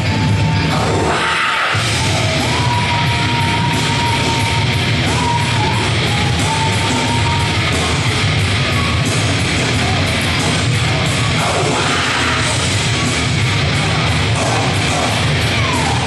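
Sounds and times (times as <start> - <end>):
heavy metal music: 0.0 - 16.0.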